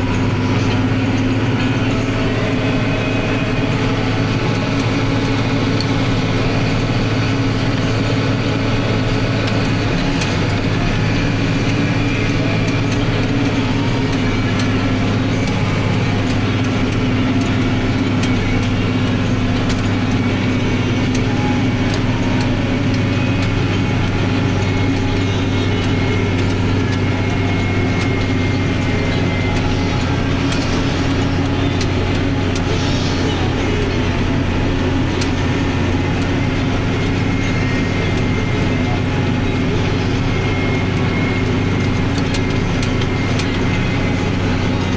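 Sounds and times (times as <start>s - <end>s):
tractor diesel engine drone: 0.0s - 44.9s.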